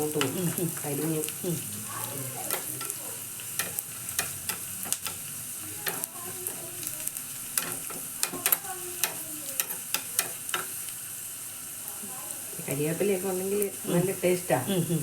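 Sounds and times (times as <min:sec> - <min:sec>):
oil sizzling in a pan: 0:00.0 - 0:15.0
spices crackling and popping: 0:00.0 - 0:15.0.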